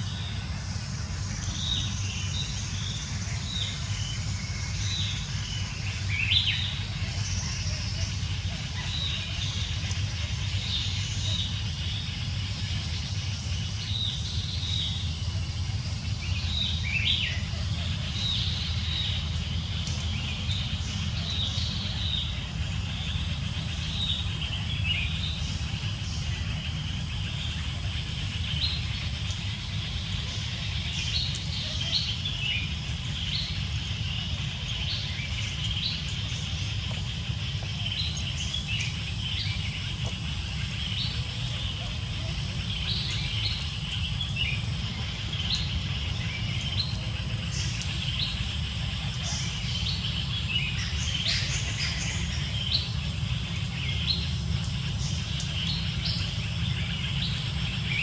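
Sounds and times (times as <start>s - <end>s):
birds chirping: 0.0s - 58.0s
steady low rumble: 0.0s - 58.0s.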